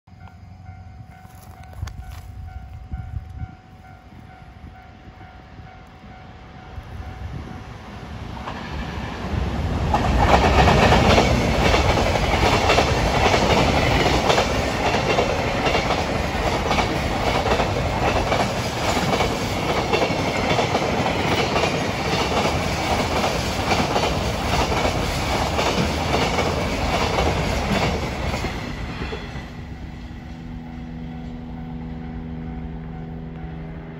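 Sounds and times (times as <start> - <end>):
freight train passing: 0.1 - 33.9.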